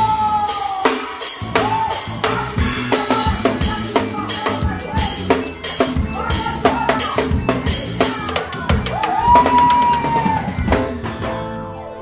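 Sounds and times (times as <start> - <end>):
busy drum kit: 0.0 - 11.4
gospel band music: 0.0 - 12.0.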